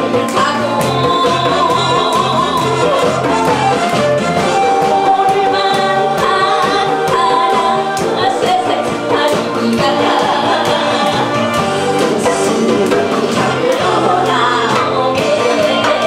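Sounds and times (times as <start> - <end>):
amplified band accompaniment: 0.0 - 16.0
steady drum beat: 0.0 - 16.0
woman singing into microphone: 0.0 - 16.0.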